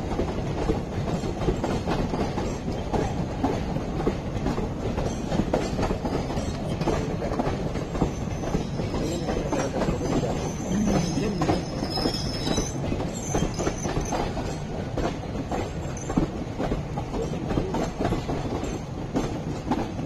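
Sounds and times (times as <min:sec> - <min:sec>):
train wheels rumbling on rail: 0:00.0 - 0:20.0
wheels clacking over rail joints: 0:00.0 - 0:20.0.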